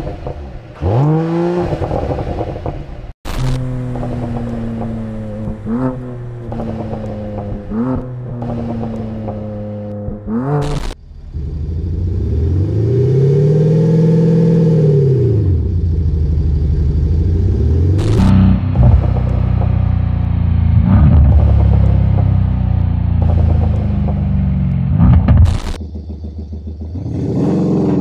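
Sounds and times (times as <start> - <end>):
simulated engine revving: 0.0 - 28.0
simulated engine idling with blips: 3.3 - 28.0.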